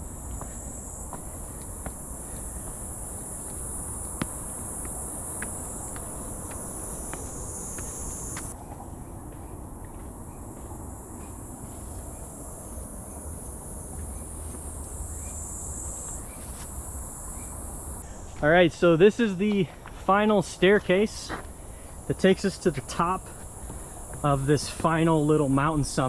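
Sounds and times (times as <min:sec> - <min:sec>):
insects chorus in forest: 0:00.0 - 0:26.0.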